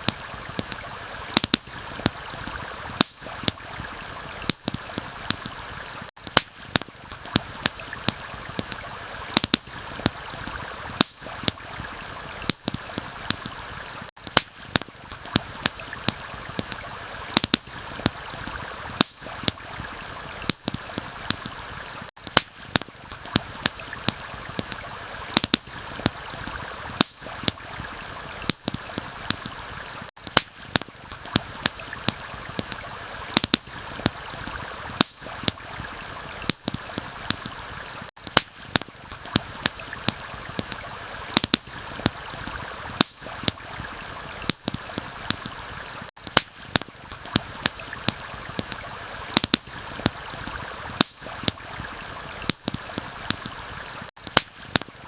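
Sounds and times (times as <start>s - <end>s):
stream rushing: 0.0s - 22.1s, 23.0s - 30.1s, 31.0s - 38.1s, 39.0s - 46.1s, 47.0s - 54.1s
campfire crackling and popping: 0.0s - 55.0s.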